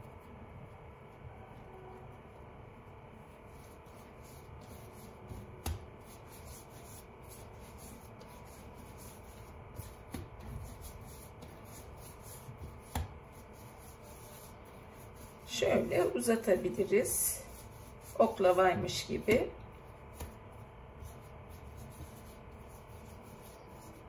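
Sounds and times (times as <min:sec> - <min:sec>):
hands rubbing dough: 0:00.0 - 0:24.0.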